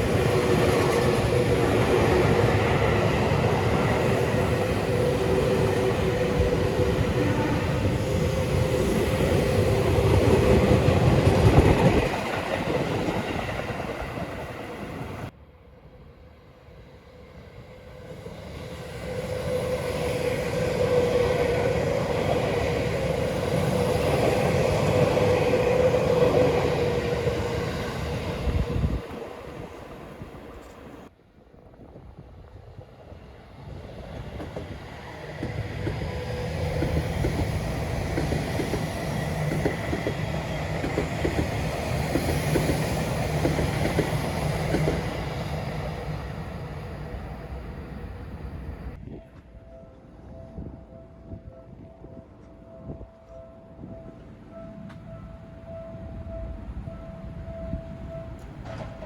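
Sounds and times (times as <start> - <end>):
train passing on rails: 0.0 - 59.0.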